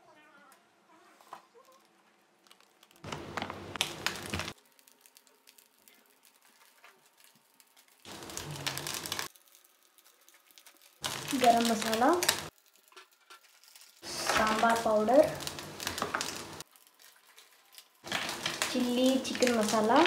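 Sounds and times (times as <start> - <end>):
plastic packets crinkling: 1.6 - 20.0.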